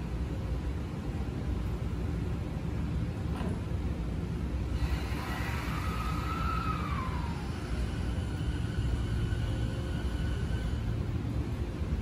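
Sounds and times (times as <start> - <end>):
electric train rumbling: 0.0 - 12.0
faint inverter whine: 0.0 - 12.0.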